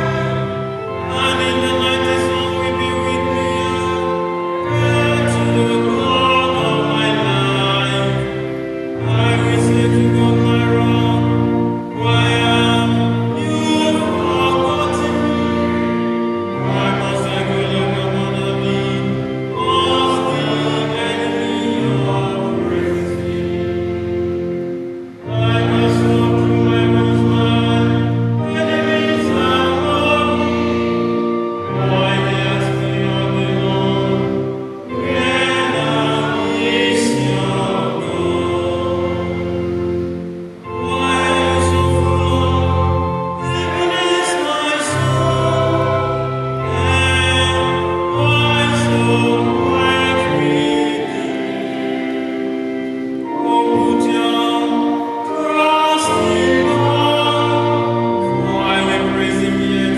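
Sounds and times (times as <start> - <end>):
church choir singing: 0.0 - 59.9
electronic keyboard: 0.0 - 59.9.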